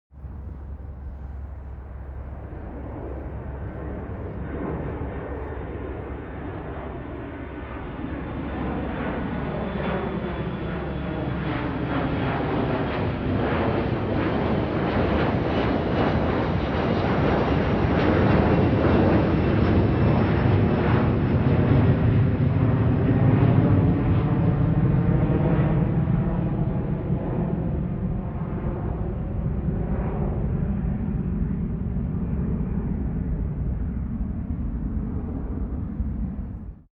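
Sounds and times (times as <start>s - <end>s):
aeroplane flying by: 0.1s - 36.9s.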